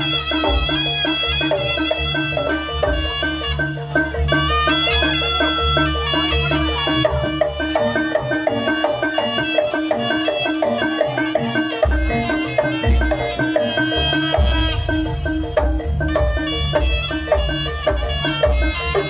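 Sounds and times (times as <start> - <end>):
gong-chimes and drums: 0.0 - 19.0
shrill reedy wind instrument: 0.0 - 19.0.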